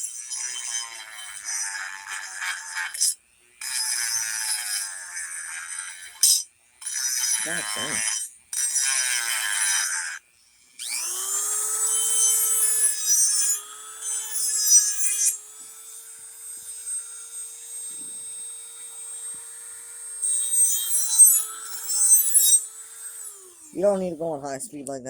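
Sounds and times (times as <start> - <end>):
grinding steel blade: 0.0 - 25.0
rotary tool whine: 0.0 - 25.0.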